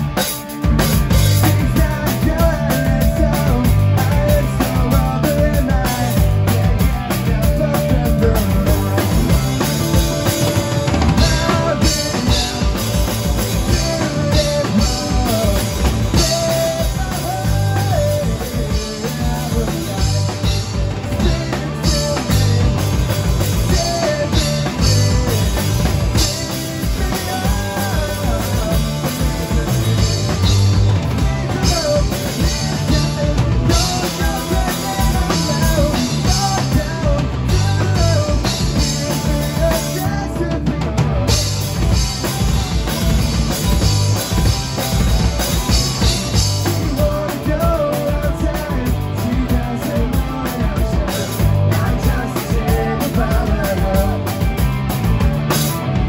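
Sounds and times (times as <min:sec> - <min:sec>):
distorted electric guitars: 0:00.0 - 0:56.0
drum kit pounding: 0:00.0 - 0:56.0
rock band playing: 0:00.0 - 0:56.0.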